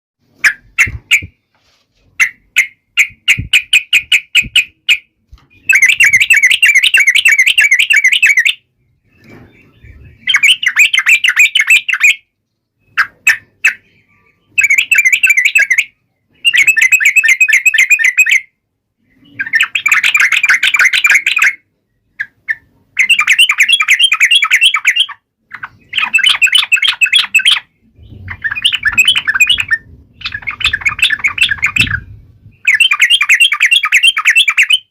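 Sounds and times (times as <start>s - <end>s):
bird chattering song: 2.2s - 34.9s.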